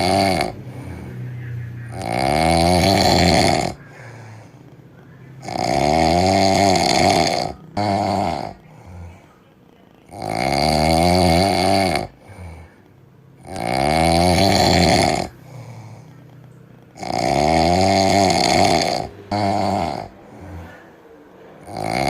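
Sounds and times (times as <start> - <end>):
cat snoring: 0.0 - 4.7, 5.3 - 9.4, 10.0 - 22.0
cat breathing: 0.0 - 22.0.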